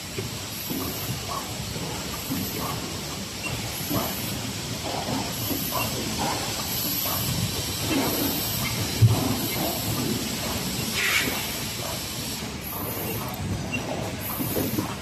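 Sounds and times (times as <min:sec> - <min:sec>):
packing machinery hissing: 0:00.0 - 0:15.0.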